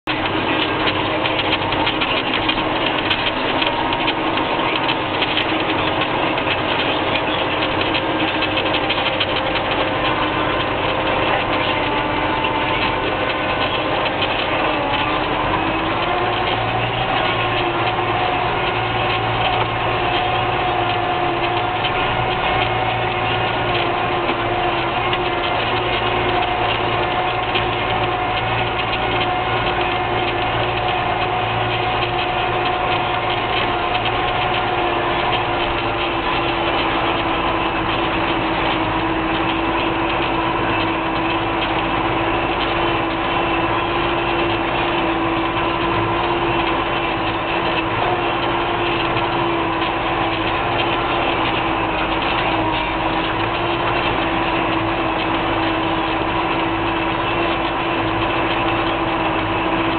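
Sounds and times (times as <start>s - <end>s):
tractor diesel engine from cab: 0.0s - 59.9s.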